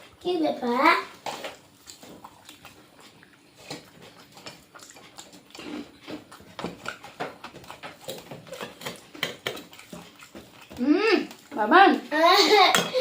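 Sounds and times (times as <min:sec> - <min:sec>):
chewing: 0:01.0 - 0:11.6.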